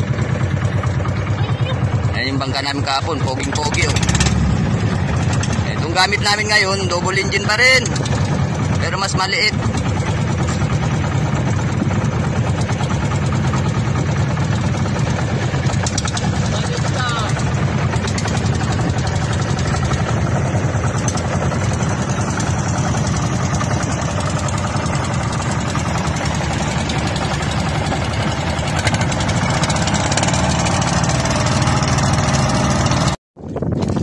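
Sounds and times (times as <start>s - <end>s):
boat engines running: 0.0s - 34.0s.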